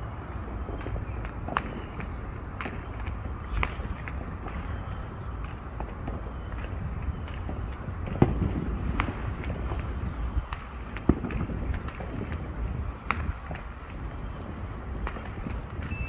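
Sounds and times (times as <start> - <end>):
steady low rumble: 0.0 - 16.0
fireworks cracking and popping: 0.5 - 16.0.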